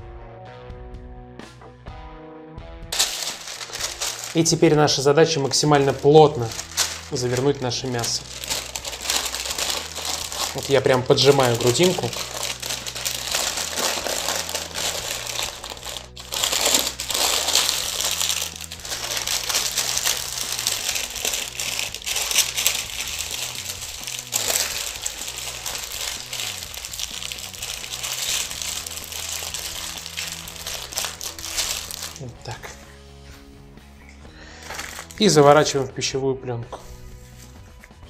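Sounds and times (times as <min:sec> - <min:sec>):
baking paper crinkling: 0:03.0 - 0:32.6, 0:34.6 - 0:35.8.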